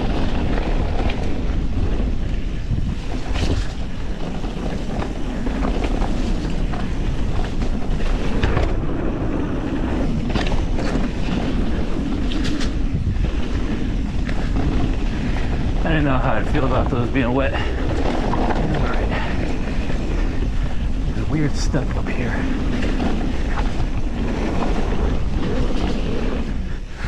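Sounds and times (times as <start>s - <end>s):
bike clicks and clatters: 0.0s - 27.0s
bike tyres rumbling on dirt: 0.0s - 27.0s
wind buffeting microphone: 0.0s - 27.0s.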